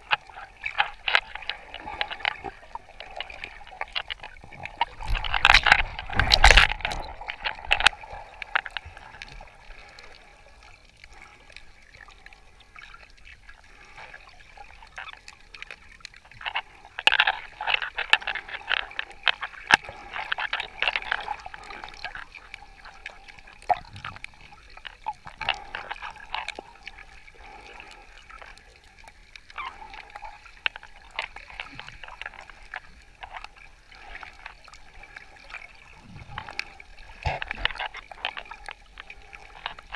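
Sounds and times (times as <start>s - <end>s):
faint clicks: 0.0s - 39.9s
water sloshing and gurgling: 0.0s - 39.9s.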